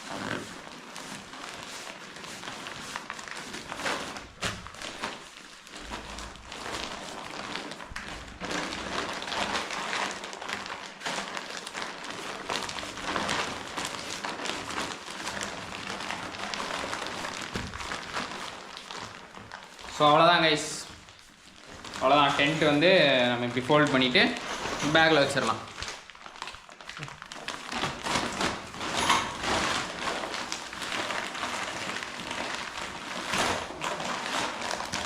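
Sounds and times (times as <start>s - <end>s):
tent fabric rustling: 0.0s - 35.0s.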